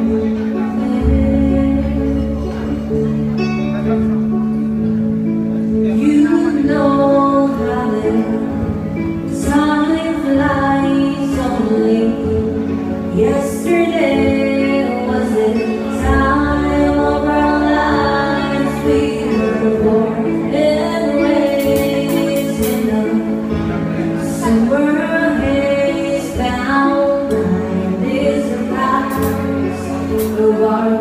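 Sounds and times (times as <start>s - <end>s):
woman singing into microphone: 0.0s - 3.3s, 5.8s - 31.0s
instrumental backing music: 0.0s - 31.0s.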